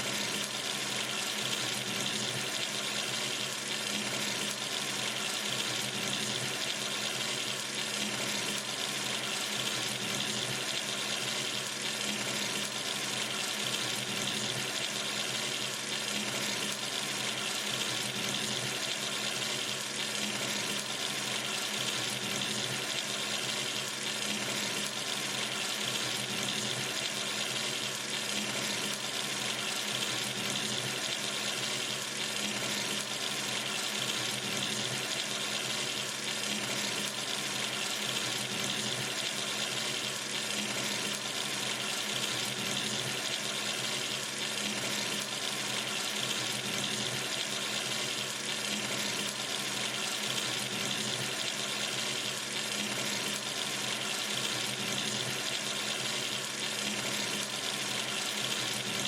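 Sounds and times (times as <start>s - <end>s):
tap water pouring into basin: 0.0s - 59.0s.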